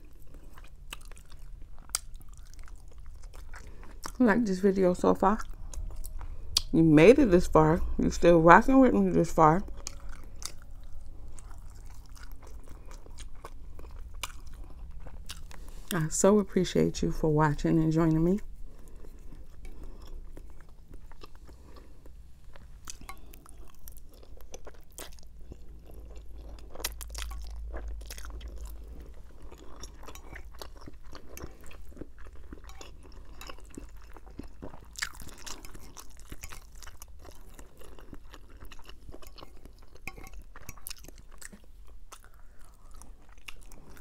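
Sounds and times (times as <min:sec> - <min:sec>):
person chewing food: 0:00.0 - 0:04.2, 0:05.3 - 0:06.8, 0:09.1 - 0:16.0, 0:18.5 - 0:44.0.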